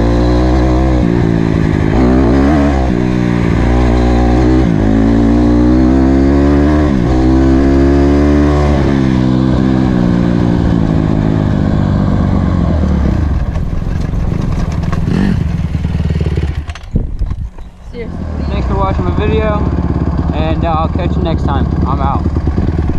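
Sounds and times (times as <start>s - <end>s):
dirt bike engine revving: 0.0s - 13.5s, 14.1s - 22.9s.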